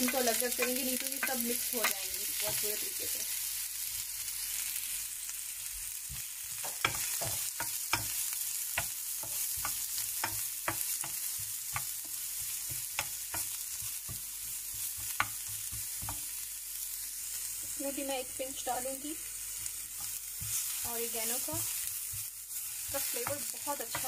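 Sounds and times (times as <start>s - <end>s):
carrots sizzling in a pan: 0.0s - 24.0s.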